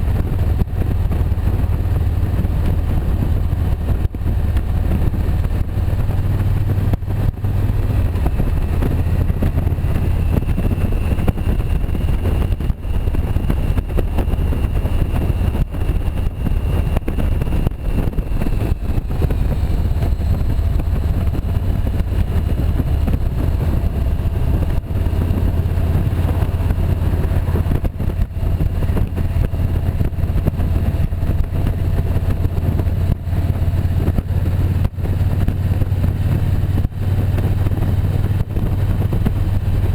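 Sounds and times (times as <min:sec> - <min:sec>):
motorcycle engine rumble: 0:00.0 - 0:39.9
road noise: 0:00.0 - 0:39.9.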